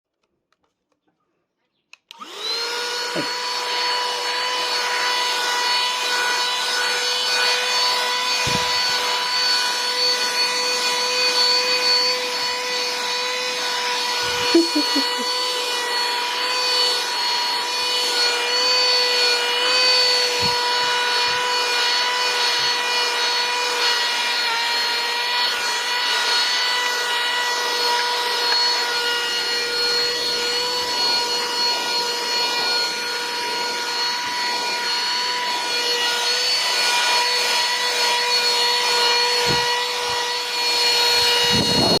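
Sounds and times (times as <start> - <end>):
vacuum cleaner running: 2.1 - 42.0.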